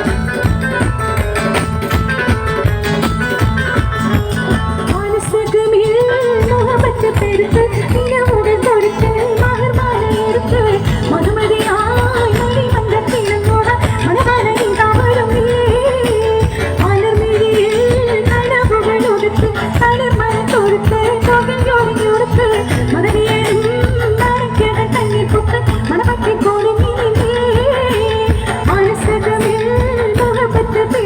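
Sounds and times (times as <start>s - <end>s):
amplified band with steady beat: 0.0s - 31.0s.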